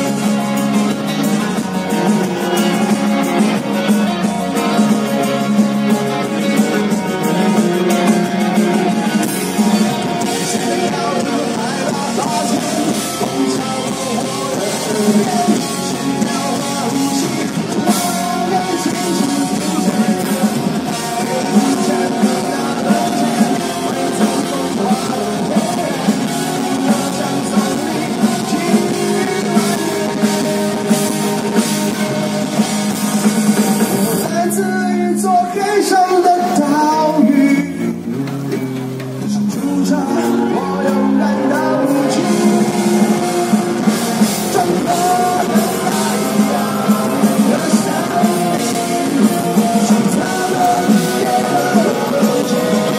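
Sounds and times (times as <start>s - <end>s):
people singing: 0.0s - 32.7s, 39.3s - 52.9s
live rock band playing: 0.0s - 52.9s.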